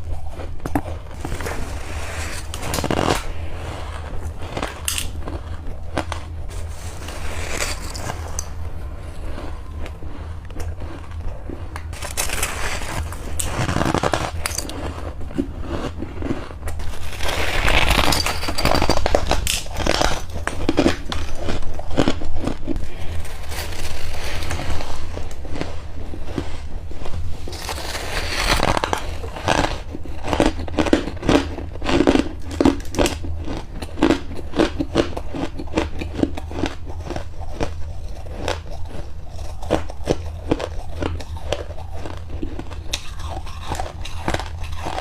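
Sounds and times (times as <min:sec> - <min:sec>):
ice crunching being chewed: 0:00.0 - 0:45.0.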